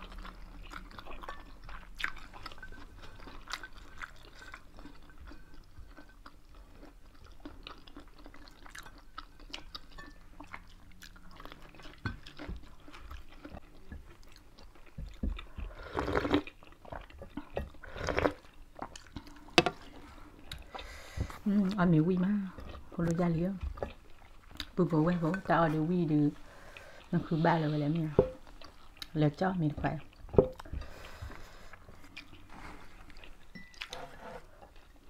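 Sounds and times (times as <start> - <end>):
people chewing with wet clicks: 0.0 - 27.3, 28.0 - 34.0.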